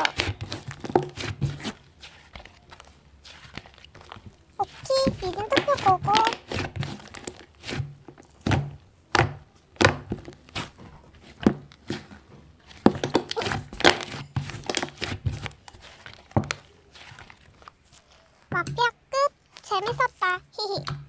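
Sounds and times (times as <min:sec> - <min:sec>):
slime squeezed by hand: 0:00.0 - 0:07.9, 0:10.5 - 0:19.7.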